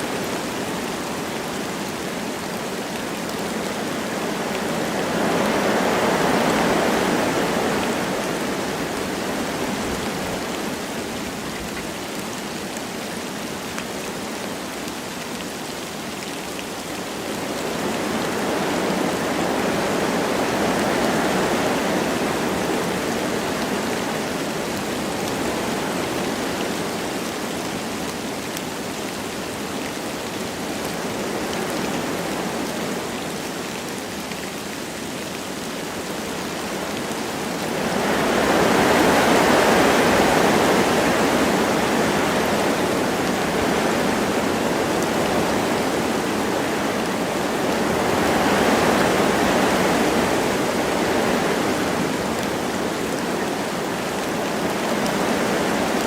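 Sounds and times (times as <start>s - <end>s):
light rain: 0.0s - 56.0s
wind through trees: 0.0s - 56.0s.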